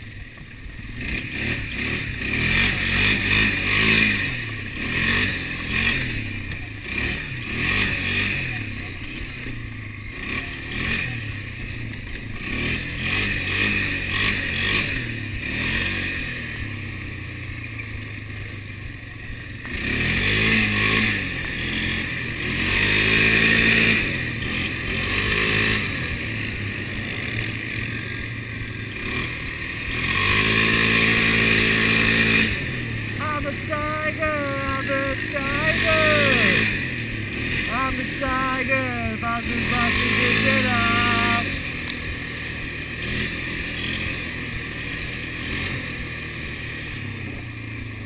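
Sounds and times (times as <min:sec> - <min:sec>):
quad bike engine running: 0:00.0 - 0:48.0.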